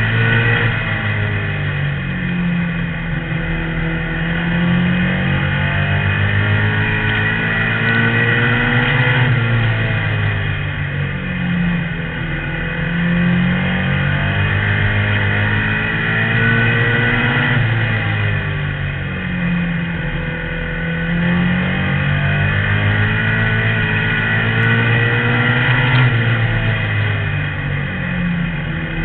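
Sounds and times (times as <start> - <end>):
race car engine from inside: 0.0 - 29.0.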